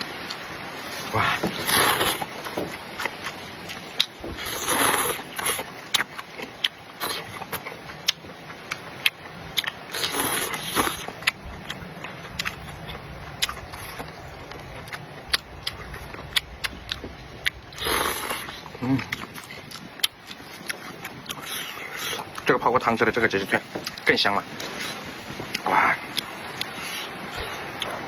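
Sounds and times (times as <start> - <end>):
food chewing and crunching: 0.0 - 28.0
noisy bursts: 0.0 - 28.0.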